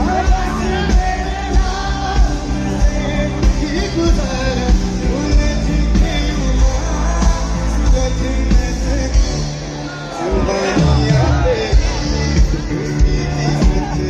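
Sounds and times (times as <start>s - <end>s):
heavy steady drum beat: 0.0s - 9.6s, 10.4s - 14.0s
live band music through pa: 0.0s - 14.0s
person singing: 0.0s - 14.0s.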